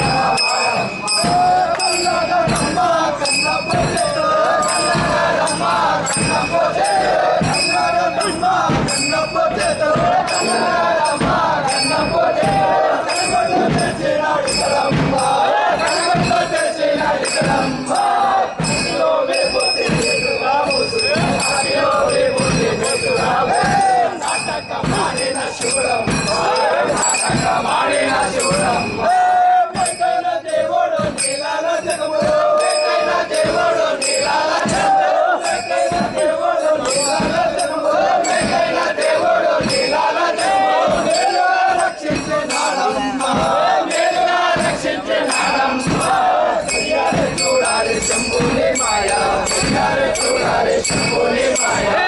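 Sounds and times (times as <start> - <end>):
crowd of men chanting: 0.0 - 52.0
percussion beat: 0.0 - 52.0.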